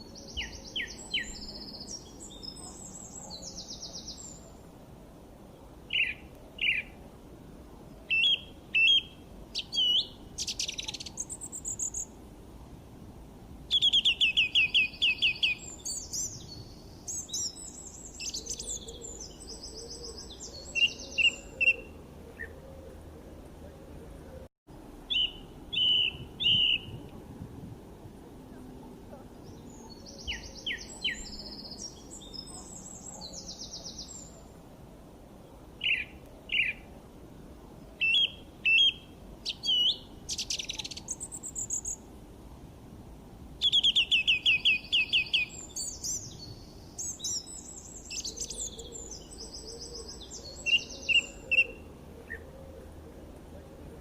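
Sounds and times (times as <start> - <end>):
songbirds chirping and trilling: 0.0 - 12.3, 13.5 - 27.2, 28.0 - 42.2, 43.4 - 54.0.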